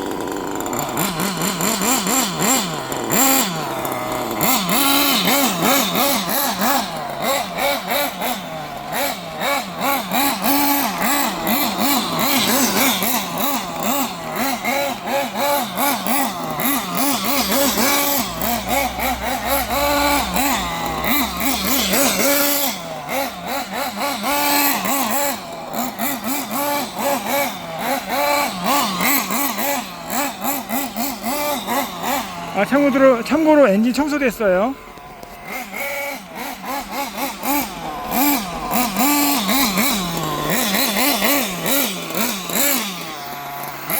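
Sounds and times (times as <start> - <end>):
small glow-fuel engine revving: 0.0 - 43.9.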